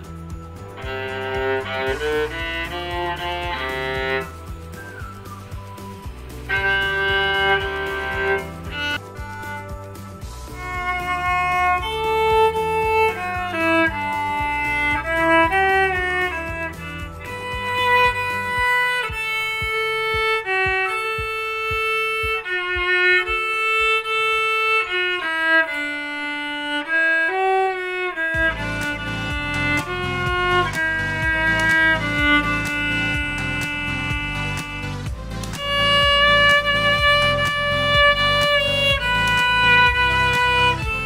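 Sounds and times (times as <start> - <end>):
bowed viola melody: 0.0 - 41.0
low accompaniment: 0.0 - 41.0.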